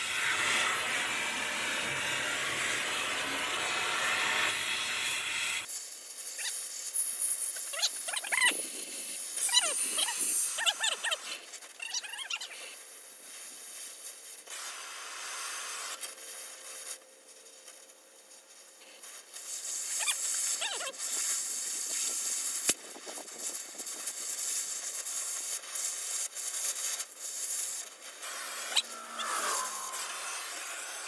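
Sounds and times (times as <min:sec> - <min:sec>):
cutting torch hissing: 0:00.0 - 0:17.0, 0:18.5 - 0:31.0.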